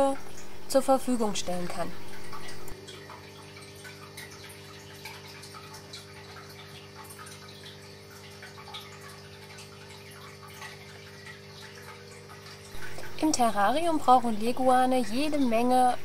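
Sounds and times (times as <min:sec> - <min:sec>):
low electrical hum: 0:00.0 - 0:16.0
water trickling and dripping: 0:00.0 - 0:16.0.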